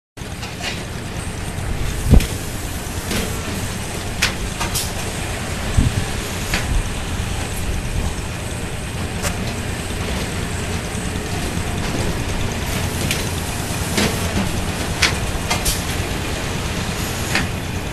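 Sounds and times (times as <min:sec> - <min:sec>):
conveyor machine rumbling: 0:00.2 - 0:17.9.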